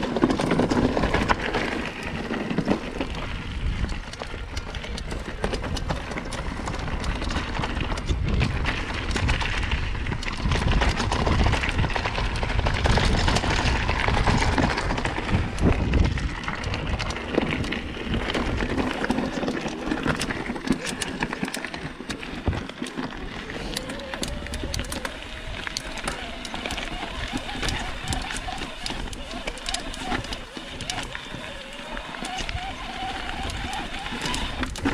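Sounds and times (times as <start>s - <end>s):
bike rattling clicks: 0.0s - 34.9s
bike tyres on loose trail: 0.0s - 34.9s
wind rumble on microphone: 0.0s - 34.9s.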